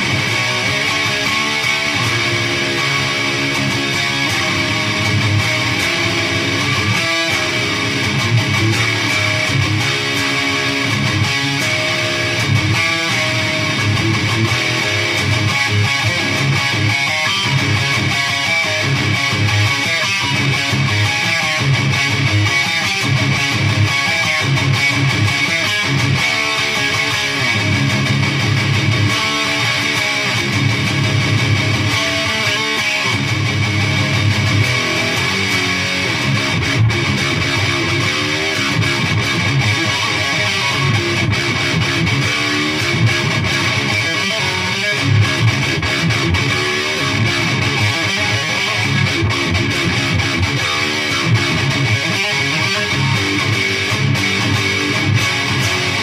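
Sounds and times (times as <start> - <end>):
electric guitar riff: 0.0 - 56.0.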